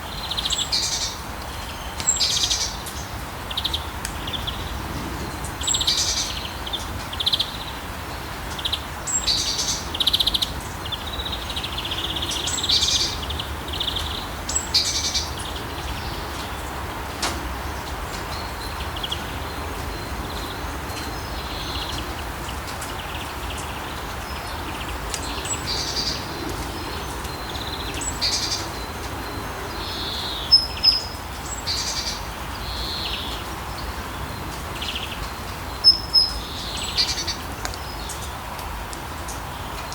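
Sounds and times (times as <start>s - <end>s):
songbirds chirping: 0.0s - 39.9s
steady rain falling: 0.0s - 39.9s.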